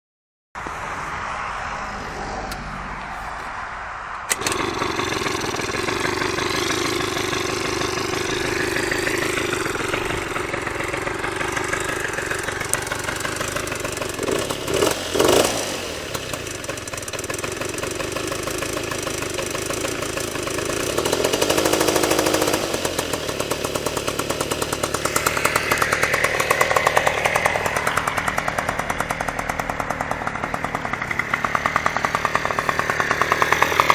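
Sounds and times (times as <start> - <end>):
scooter engine starting and revving: 4.2 - 33.9.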